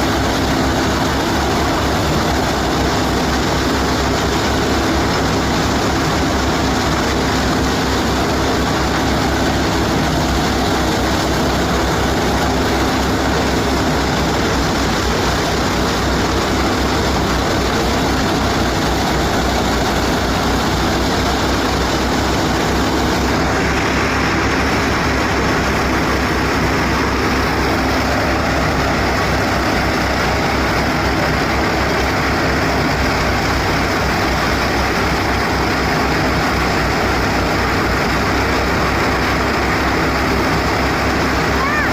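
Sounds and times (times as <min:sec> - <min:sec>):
threshing machine rushing: 0:00.0 - 0:41.9
tractor engine droning: 0:00.0 - 0:41.9.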